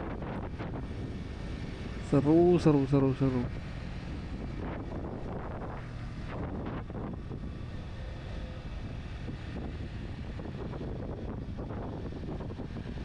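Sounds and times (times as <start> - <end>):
motorcycle engine and tyre noise: 0.0 - 13.0
wind rushing over microphone: 0.0 - 13.0.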